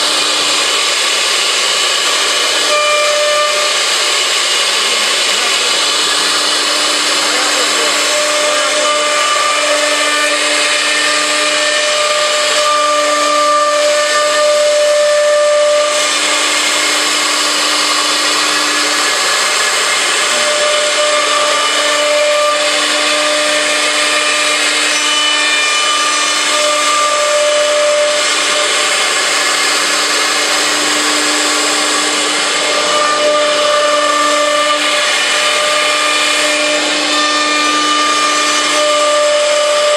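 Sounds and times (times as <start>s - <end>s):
router bit rasping through wood: 0.0s - 39.9s
router spindle whine: 0.0s - 39.9s.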